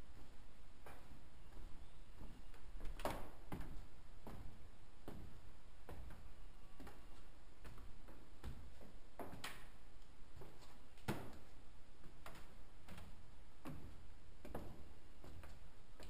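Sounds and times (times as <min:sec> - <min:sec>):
footsteps walking: 0:00.0 - 0:16.0.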